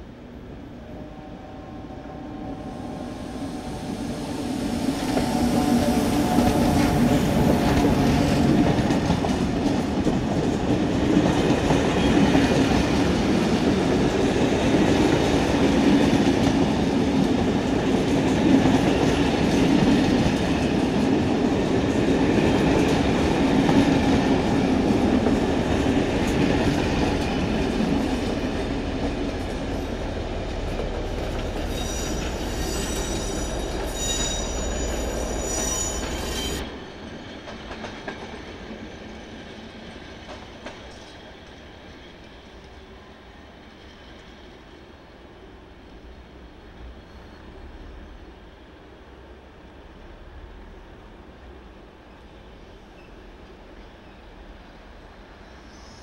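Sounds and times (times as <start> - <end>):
train wheels running on rails: 2.2 - 48.5.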